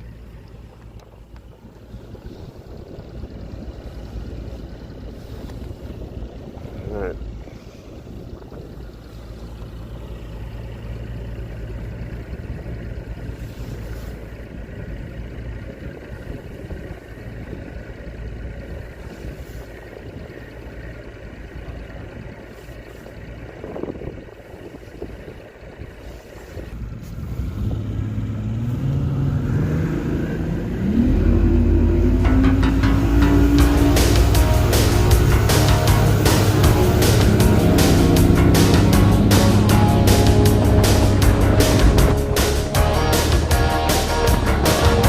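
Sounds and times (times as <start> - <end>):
boat motor running: 0.0 - 29.5, 30.1 - 45.0
wind and water rumble: 0.0 - 45.0.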